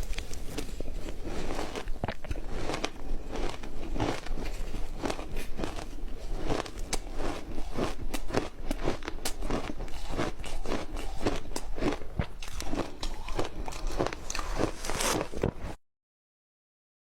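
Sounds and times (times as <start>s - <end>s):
ice crunching while chewed: 0.0s - 15.8s.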